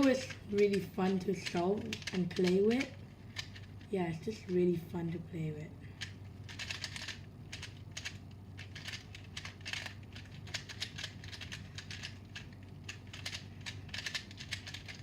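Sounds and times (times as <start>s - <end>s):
puzzle cube plastic clicks: 0.0s - 3.9s, 6.0s - 15.0s.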